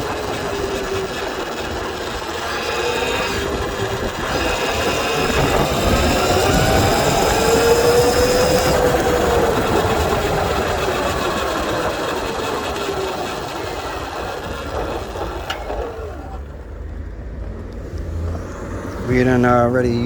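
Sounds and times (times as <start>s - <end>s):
wind noise: 0.0s - 16.4s
electric motorbike motor whining: 0.0s - 20.0s.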